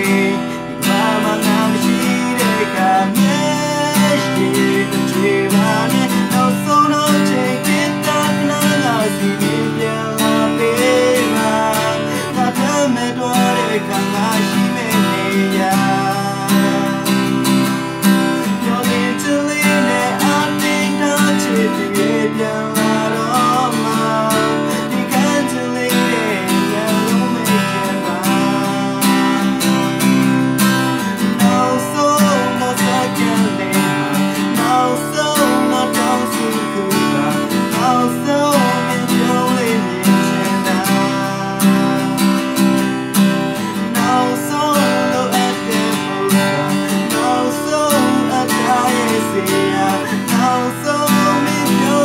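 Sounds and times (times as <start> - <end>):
acoustic guitar strumming: 0.0 - 52.0
man singing: 0.0 - 52.0.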